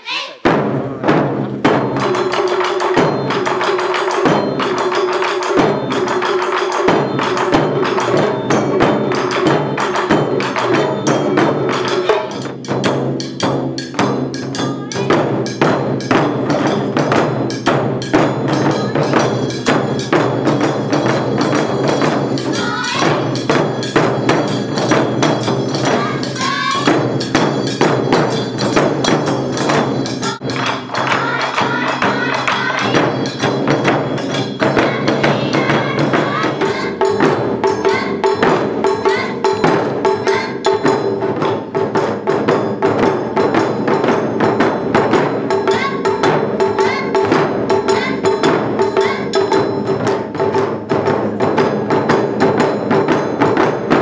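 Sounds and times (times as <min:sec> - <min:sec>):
taiko drums playing: 0:00.4 - 0:54.0.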